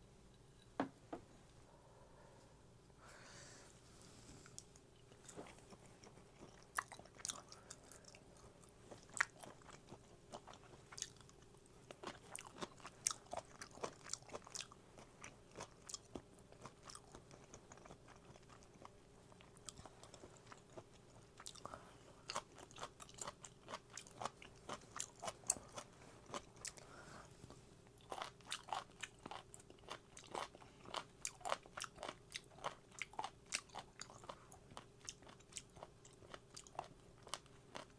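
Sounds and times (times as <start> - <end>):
chewing crunchy food: 4.5 - 37.9.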